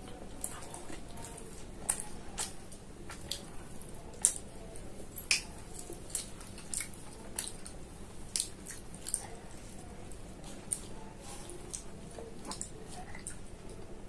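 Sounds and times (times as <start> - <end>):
person chewing with wet smacking: 0.0 - 14.0.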